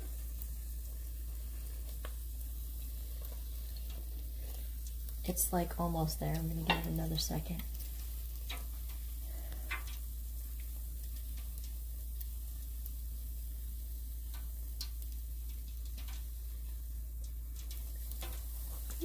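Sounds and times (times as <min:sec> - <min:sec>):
deep fryer hum: 0:00.0 - 0:19.0
food sizzling in hot oil: 0:00.0 - 0:19.0.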